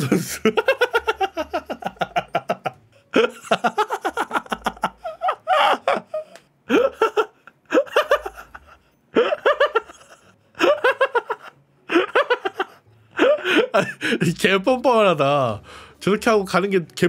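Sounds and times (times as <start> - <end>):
man laughing hard: 0.0 - 14.2.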